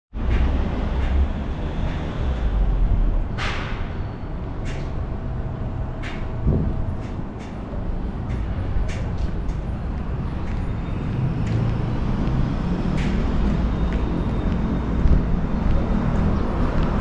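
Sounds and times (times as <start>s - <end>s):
road traffic rumble: 0.1s - 17.0s.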